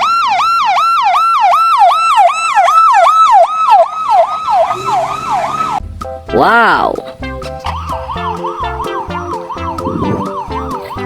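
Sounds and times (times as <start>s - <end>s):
toy police car siren yelping: 0.0s - 5.6s, 7.6s - 11.0s.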